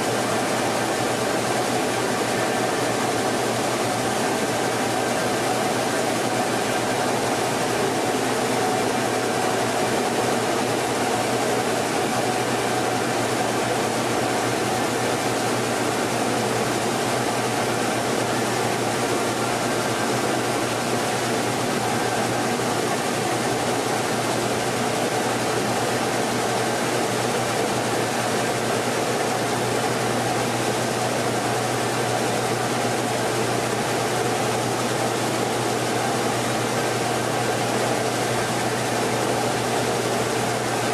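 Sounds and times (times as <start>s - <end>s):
rice mill machinery hum: 0.0s - 40.9s.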